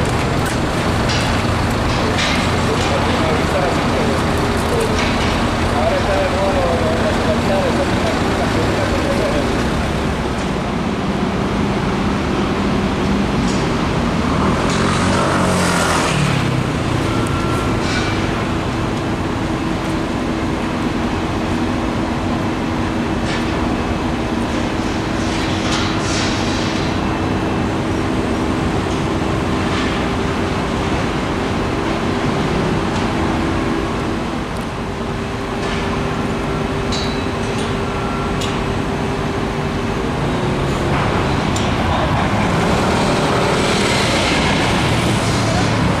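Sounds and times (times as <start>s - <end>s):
engine hum: 0.0s - 46.0s
traffic noise: 0.0s - 46.0s.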